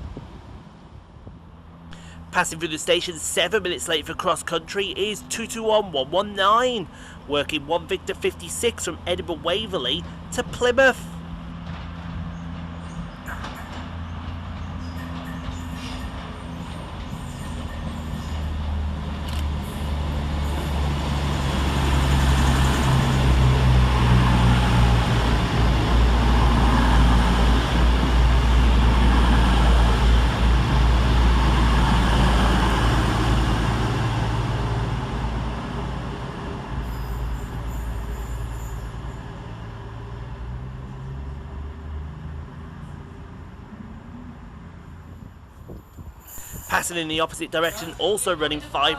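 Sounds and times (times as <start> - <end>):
diesel engines humming: 0.0 - 48.9
train wheel and rail noise: 6.6 - 48.9.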